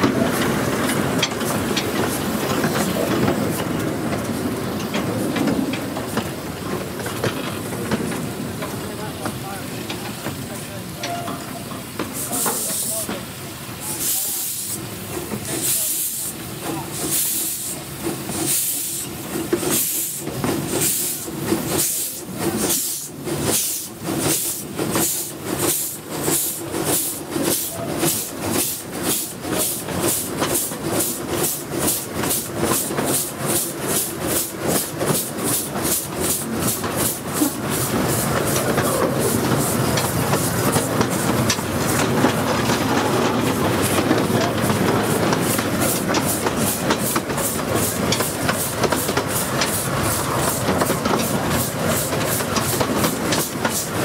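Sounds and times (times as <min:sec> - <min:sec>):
wheels on rails: 0:00.0 - 0:13.2, 0:18.0 - 0:54.0
steam hissing: 0:00.0 - 0:54.0
steam locomotive chuffing: 0:00.0 - 0:54.0.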